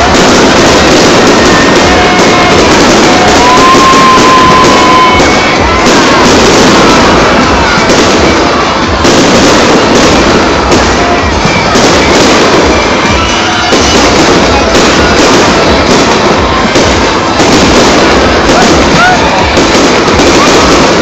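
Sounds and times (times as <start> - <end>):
fireworks bursting and crackling: 0.0 - 21.0.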